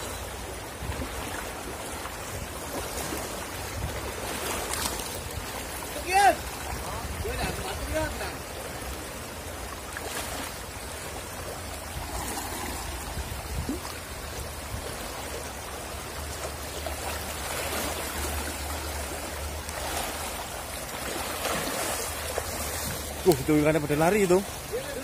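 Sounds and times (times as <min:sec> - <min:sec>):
river flowing over stones: 0:00.0 - 0:25.0.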